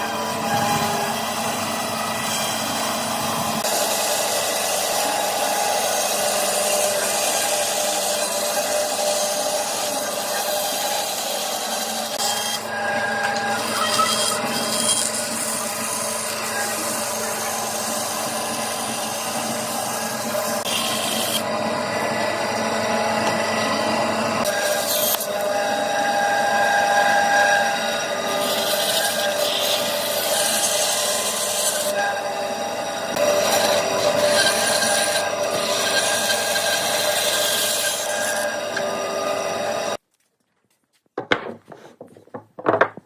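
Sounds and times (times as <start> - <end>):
power tool sanding wood: 0.0 - 40.0.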